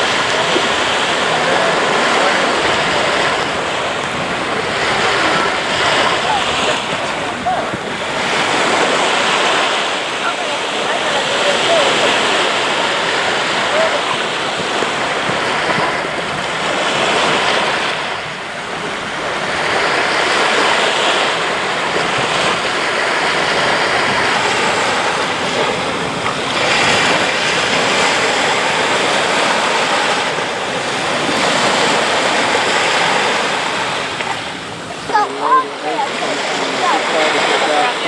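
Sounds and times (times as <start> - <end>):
small waves breaking on shore: 0.0 - 38.0.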